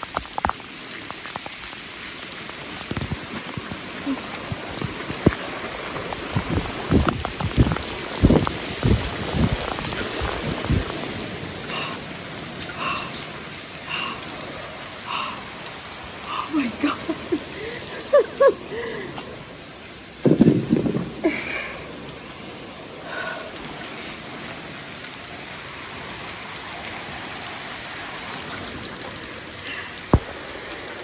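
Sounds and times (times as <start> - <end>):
rain falling steadily: 0.0 - 31.0.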